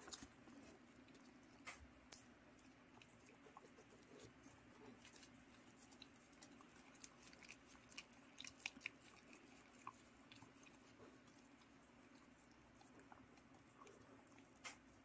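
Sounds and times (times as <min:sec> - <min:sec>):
dog chewing and licking: 0:00.0 - 0:15.0
low room hum: 0:00.0 - 0:15.0.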